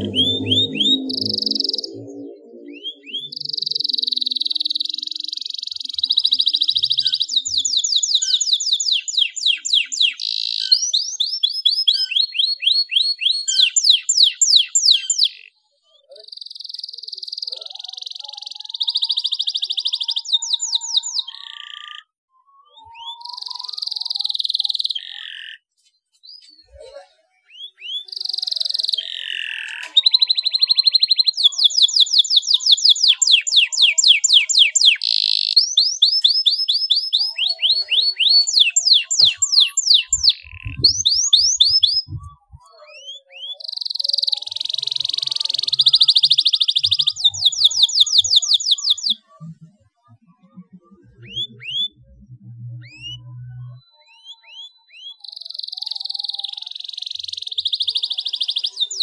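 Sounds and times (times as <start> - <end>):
canary singing: 0.0 - 49.6, 51.2 - 59.0.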